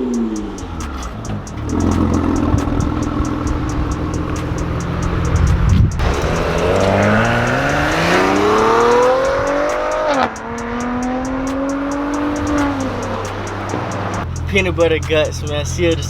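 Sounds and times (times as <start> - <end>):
car engine idling steadily: 0.0 - 16.0
car exhaust accelerating hard: 0.0 - 16.0.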